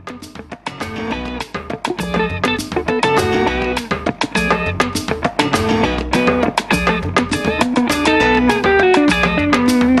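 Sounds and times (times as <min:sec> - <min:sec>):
guitar music with strummed chords: 0:00.0 - 0:10.0.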